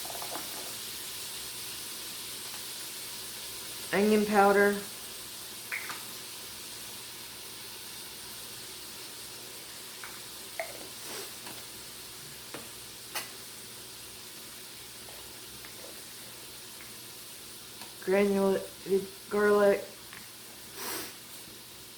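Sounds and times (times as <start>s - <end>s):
vegetables sizzling in fat: 0.0s - 21.9s.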